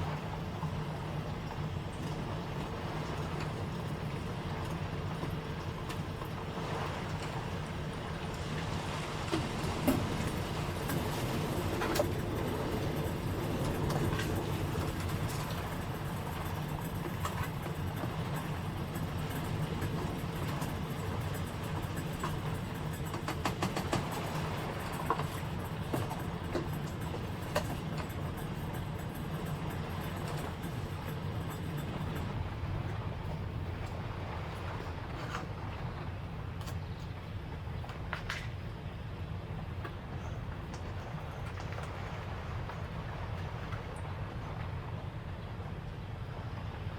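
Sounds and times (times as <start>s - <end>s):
wind and rain rumble: 0.0s - 46.9s
rain ticks and taps: 0.1s - 34.1s, 39.8s - 44.1s.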